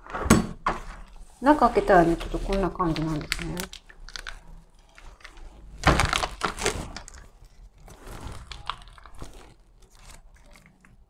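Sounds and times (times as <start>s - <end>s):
plastic packaging crinkling: 1.0s - 11.0s.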